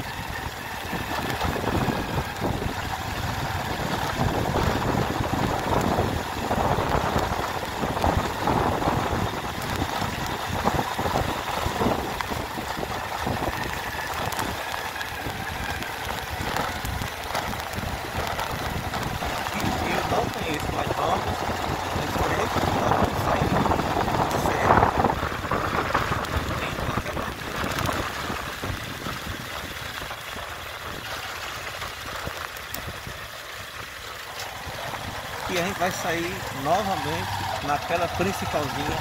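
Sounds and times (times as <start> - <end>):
road and wind noise: 0.0 - 39.0
vehicle engine running: 0.0 - 39.0.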